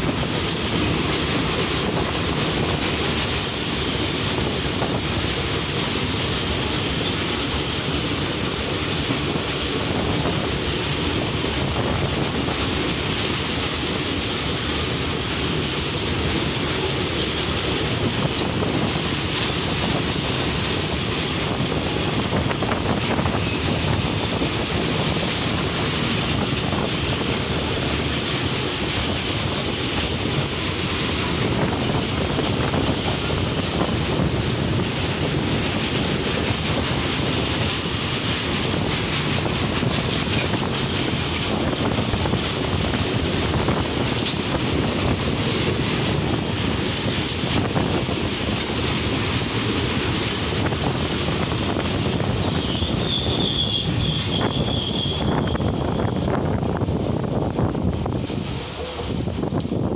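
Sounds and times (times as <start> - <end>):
high-pitched wheel squeal: 0.0 - 59.2
train wheels rumbling on rails: 0.0 - 59.9.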